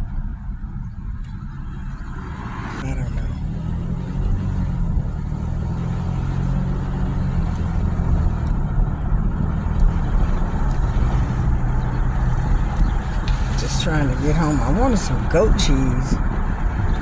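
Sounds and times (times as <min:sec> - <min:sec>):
road noise inside cabin: 0:00.0 - 0:17.0
truck engine hum: 0:00.0 - 0:17.0.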